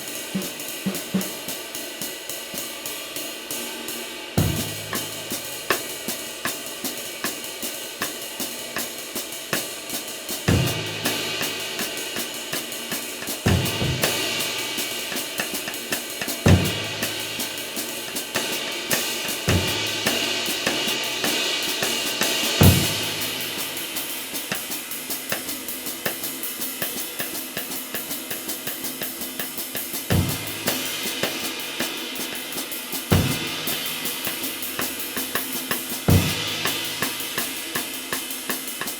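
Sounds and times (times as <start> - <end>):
drum kit: 0.0 - 38.9
ride cymbal stick strokes: 0.0 - 38.9.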